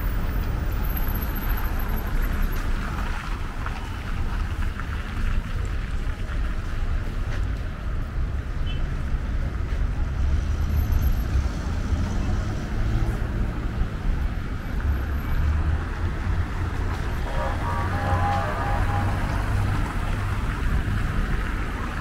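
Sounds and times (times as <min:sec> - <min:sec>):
cars passing: 0:00.0 - 0:22.0
road noise hiss: 0:00.0 - 0:22.0.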